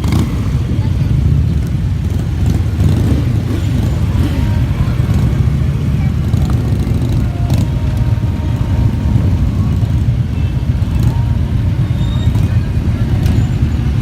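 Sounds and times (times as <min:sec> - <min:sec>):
motorcycle engines rumbling: 0:00.0 - 0:14.0
people talking: 0:00.0 - 0:14.0.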